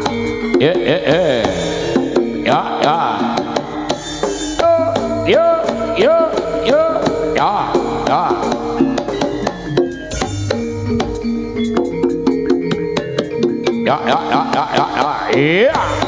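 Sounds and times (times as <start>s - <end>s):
drums beating: 0.0s - 16.0s
held metallic notes: 0.0s - 16.0s.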